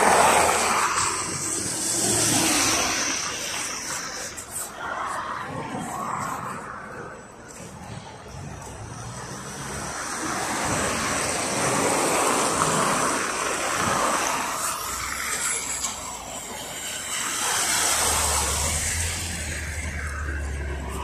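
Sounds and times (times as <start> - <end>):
bus engine hum: 0.0 - 21.0
tyres hissing on wet road: 0.0 - 21.0.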